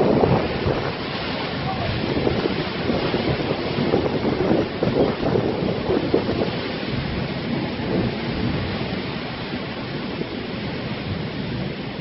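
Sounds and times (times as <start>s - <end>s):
pouring rain hiss: 0.0s - 12.0s
thunder rumbling: 0.0s - 12.0s.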